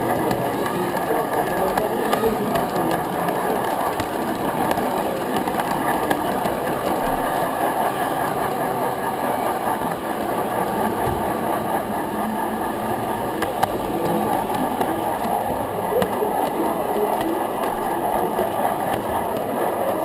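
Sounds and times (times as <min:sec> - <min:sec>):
model train wheels rumbling: 0:00.0 - 0:20.0.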